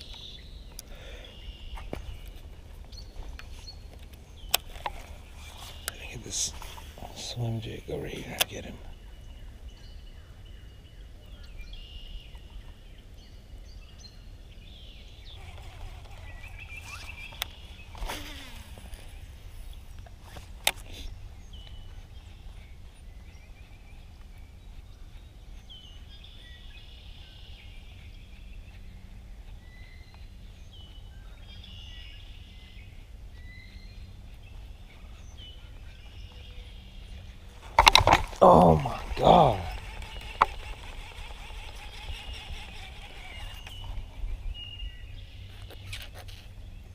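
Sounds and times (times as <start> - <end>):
birds chirping: 0.0 - 46.9
low wind rumble: 0.0 - 46.9.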